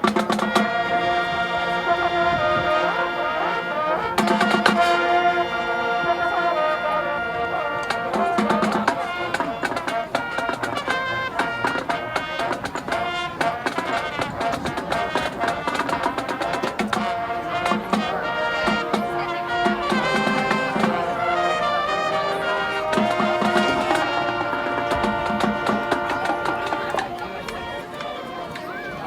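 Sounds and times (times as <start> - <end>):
drumline percussion: 0.0 - 1.5, 4.0 - 5.2, 7.7 - 29.0
marching band brass: 0.0 - 29.0.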